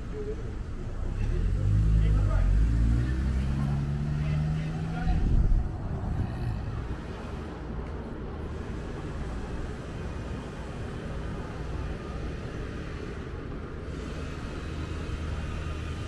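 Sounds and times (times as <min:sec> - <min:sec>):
low rumble of city ambience: 0:00.0 - 0:16.0.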